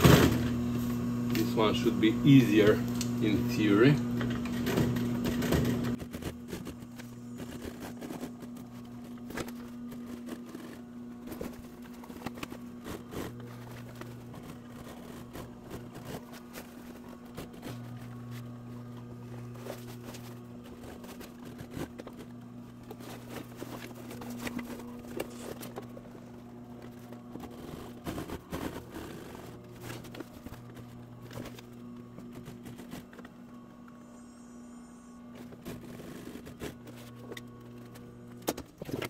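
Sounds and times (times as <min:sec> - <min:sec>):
sewing machine hum: 0:00.0 - 0:33.7, 0:34.6 - 0:39.0.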